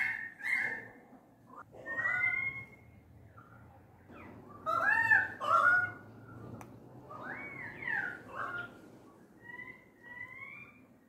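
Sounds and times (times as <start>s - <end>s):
birds calling: 1.5s - 11.0s.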